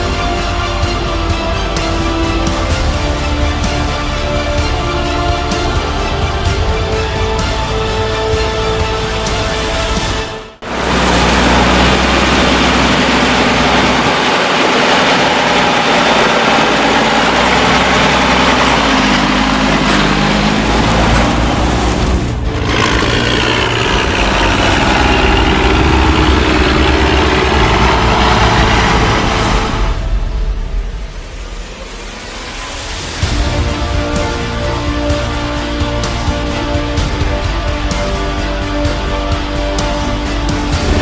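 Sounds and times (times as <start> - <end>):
diesel engine running: 0.0 - 30.5, 32.9 - 41.0.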